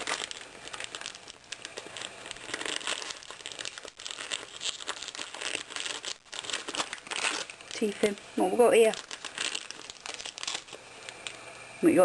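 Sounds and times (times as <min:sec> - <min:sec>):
paper tearing: 0:00.0 - 0:08.2, 0:08.8 - 0:11.4
wrapping paper crinkling: 0:00.0 - 0:11.6.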